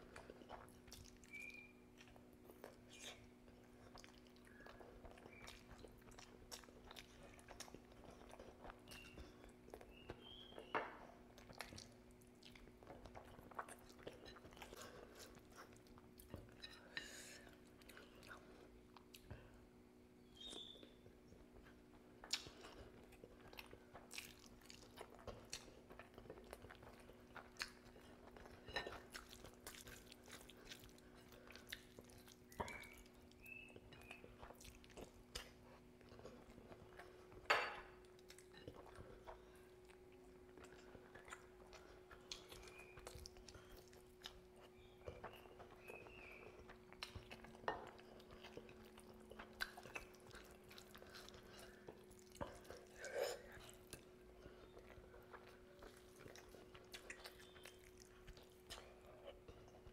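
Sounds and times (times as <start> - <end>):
wet chewing and crunching: 0.0 - 16.8, 20.4 - 59.9
faint steady hum: 0.0 - 59.9.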